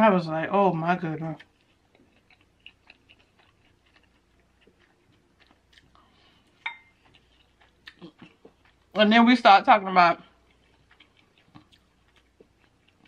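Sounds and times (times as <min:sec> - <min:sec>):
person chewing food: 0:01.1 - 0:09.0, 0:10.2 - 0:13.0.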